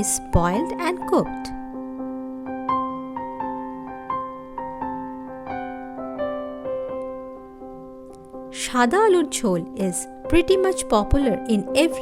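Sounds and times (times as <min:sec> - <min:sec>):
gentle piano notes over held chord: 0:00.0 - 0:12.0.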